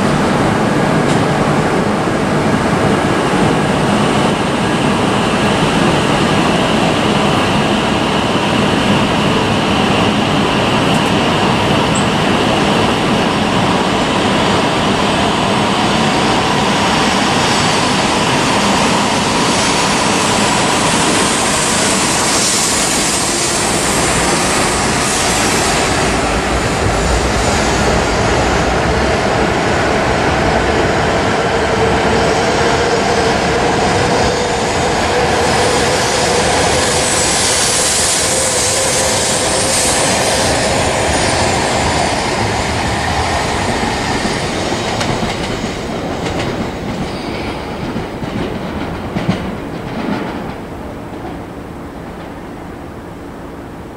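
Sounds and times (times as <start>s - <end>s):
train wheels rushing past: 0.0s - 52.3s.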